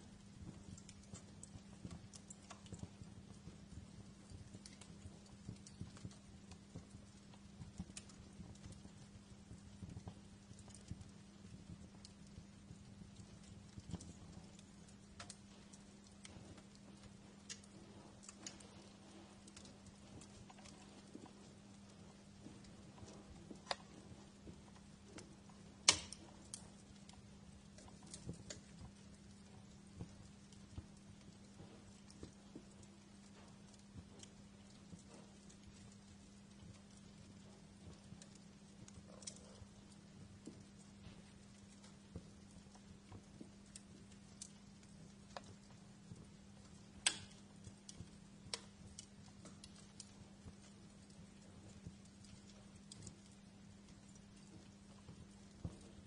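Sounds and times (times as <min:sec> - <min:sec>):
faint low hum: 0:00.0 - 0:56.0
wood fire crackling: 0:00.0 - 0:56.0.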